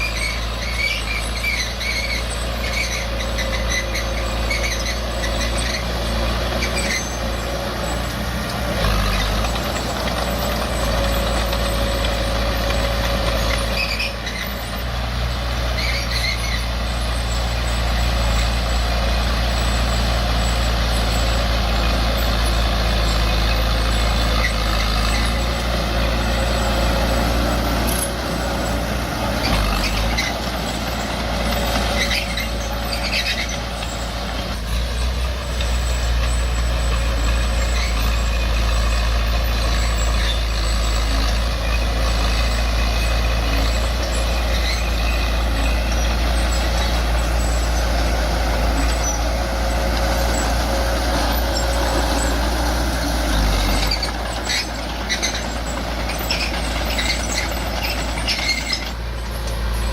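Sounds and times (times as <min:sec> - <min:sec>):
diesel machinery droning: 0:00.0 - 0:59.9
high squeaks: 0:00.0 - 0:59.9.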